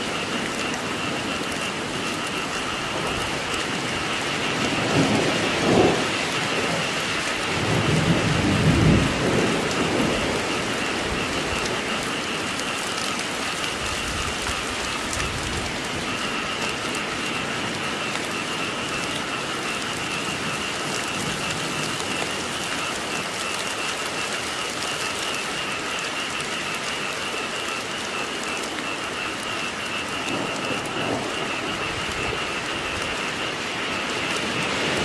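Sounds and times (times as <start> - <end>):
frogs calling: 0.0 - 35.0
heavy rain falling: 0.0 - 35.0.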